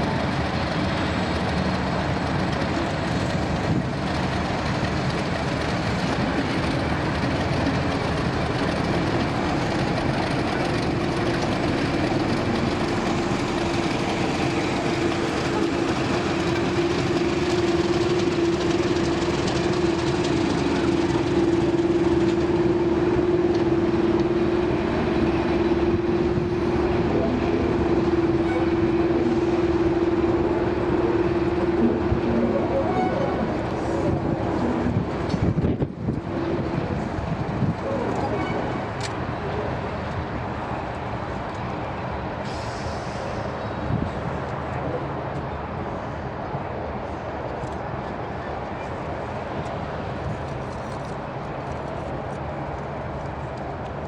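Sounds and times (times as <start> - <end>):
diesel locomotive rumbling: 0.0 - 54.0.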